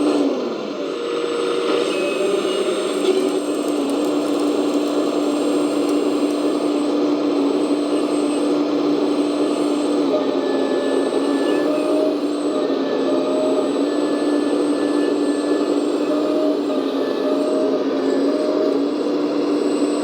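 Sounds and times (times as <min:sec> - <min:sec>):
hydraulic system whine and hum: 0:00.0 - 0:20.0.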